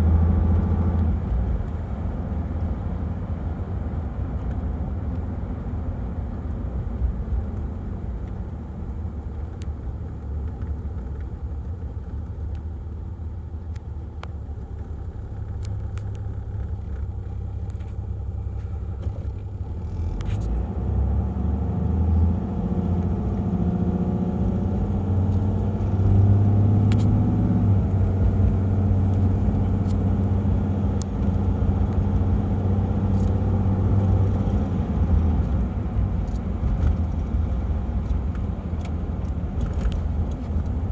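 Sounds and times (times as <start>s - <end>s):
diesel engine droning while driving: 0.0s - 40.9s.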